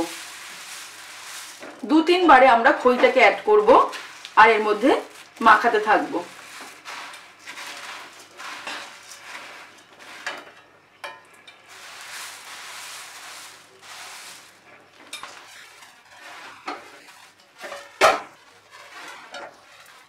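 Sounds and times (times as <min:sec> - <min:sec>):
puffed rice rustling: 0:00.0 - 0:10.6, 0:11.4 - 0:20.0.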